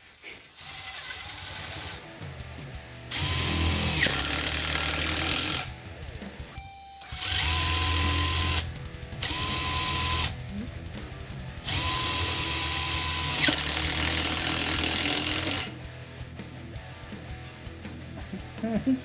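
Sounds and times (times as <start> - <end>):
impact driver running: 0.5 - 16.0.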